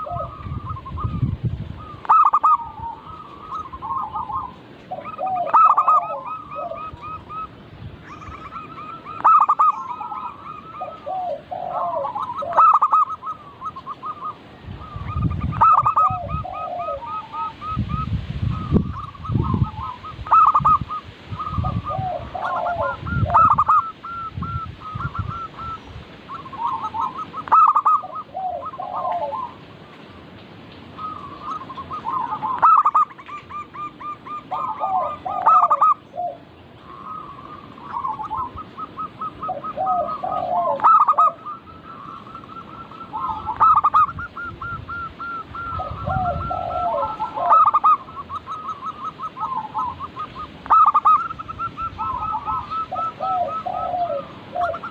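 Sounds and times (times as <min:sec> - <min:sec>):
dove cooing: 0:00.0 - 0:29.7, 0:31.0 - 0:54.9.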